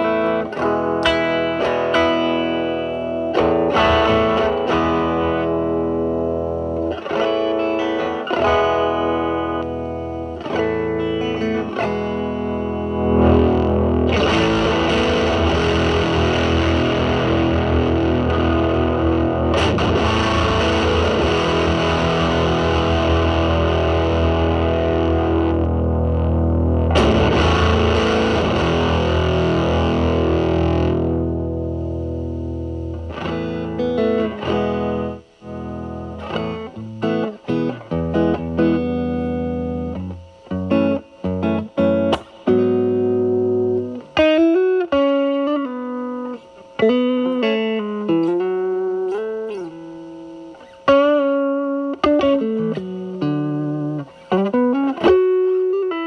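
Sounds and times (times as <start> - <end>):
electric guitar with fuzz: 0.0 - 56.0.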